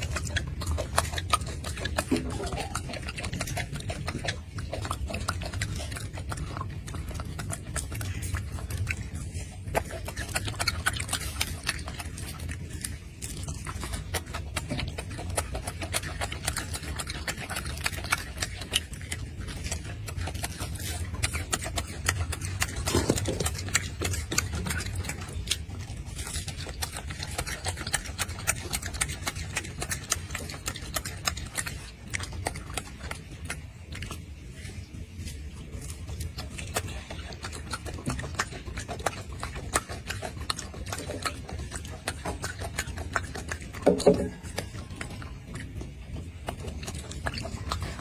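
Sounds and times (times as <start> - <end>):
monkey chewing wet smacks: 0.0 - 48.0.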